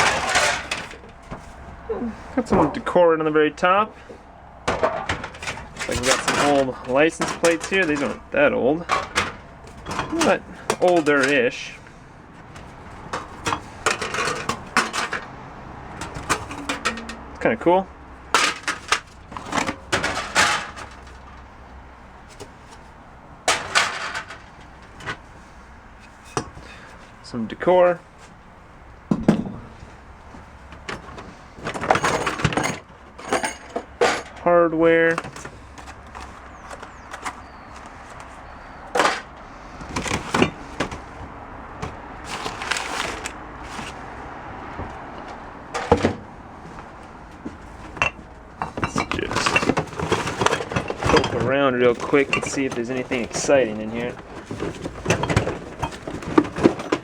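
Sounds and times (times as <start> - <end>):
items clattering in a tote: 0.0 - 2.9, 4.0 - 27.4, 29.1 - 57.0.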